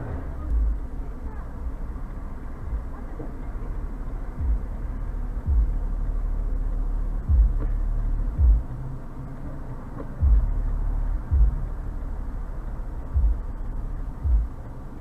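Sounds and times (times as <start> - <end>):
car rumbling on the road: 0.0 - 15.0
dull low thumps: 1.6 - 9.1, 9.9 - 15.0.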